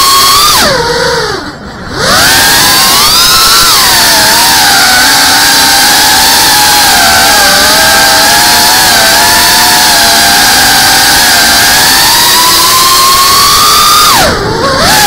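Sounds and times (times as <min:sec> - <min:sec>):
drone motors and propellers whining: 0:00.0 - 0:15.0.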